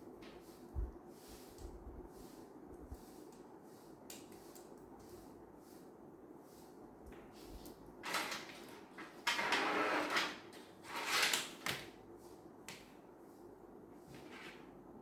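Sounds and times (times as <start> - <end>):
scraping and sliding handling noises: 0.2 - 14.9.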